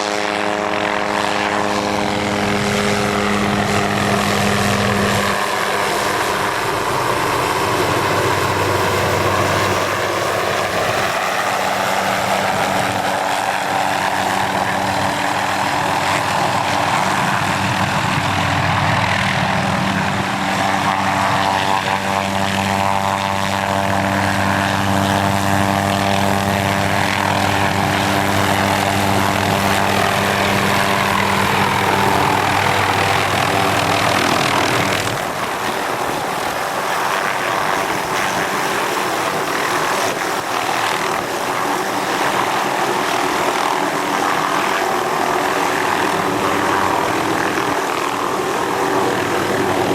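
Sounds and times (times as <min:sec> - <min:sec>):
propeller aircraft droning overhead: 0:00.0 - 0:49.9.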